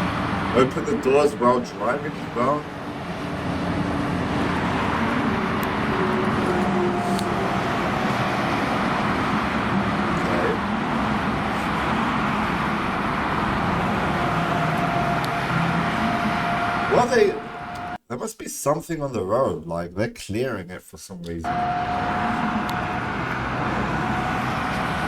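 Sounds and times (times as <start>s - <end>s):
low engine hum: 0.0s - 18.0s, 21.5s - 25.0s
tyres and wind rushing: 0.0s - 18.0s, 21.4s - 25.0s.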